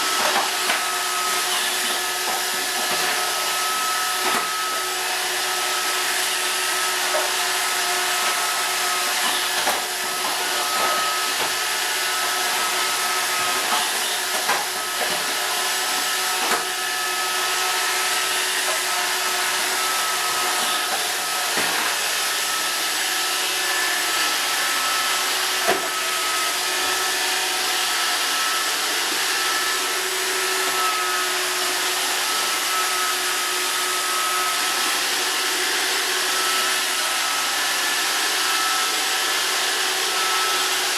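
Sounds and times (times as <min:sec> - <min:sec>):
robot vacuum cleaner whirring: 0:00.0 - 0:40.9.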